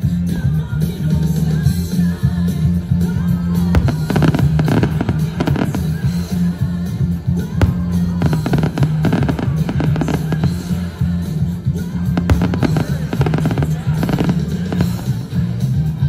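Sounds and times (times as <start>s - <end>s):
loud music with bass line: 0.0s - 16.0s
fireworks bursting and crackling: 2.8s - 15.8s.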